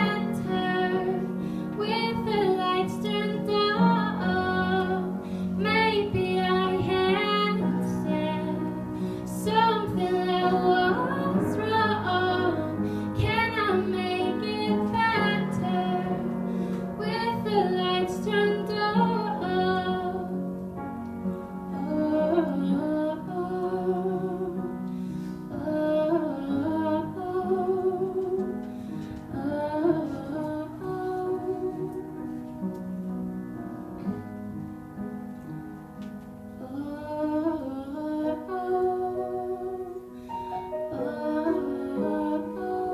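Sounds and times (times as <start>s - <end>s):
woman singing into microphone: 0.0s - 20.4s, 21.7s - 24.6s, 25.5s - 28.6s, 29.2s - 32.2s, 36.6s - 40.0s, 40.9s - 42.9s
instrumental backing: 0.0s - 42.9s.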